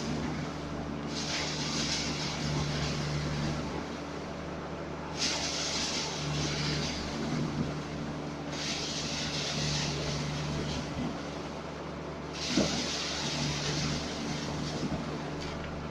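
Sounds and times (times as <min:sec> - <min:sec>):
concrete pump running: 0:00.0 - 0:15.9.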